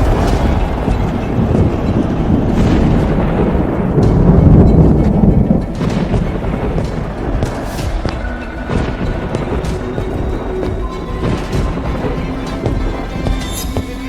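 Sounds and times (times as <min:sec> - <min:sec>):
deep thunder-like rumble: 0:00.0 - 0:14.0.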